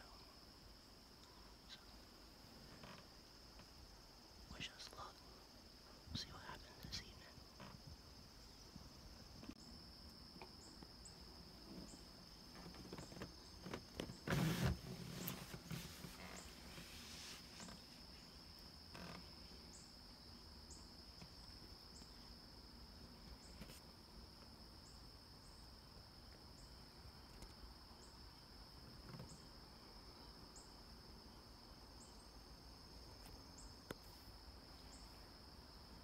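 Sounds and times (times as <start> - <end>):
insect trill: 0.0 - 36.0
short insect chirp: 0.0 - 36.0.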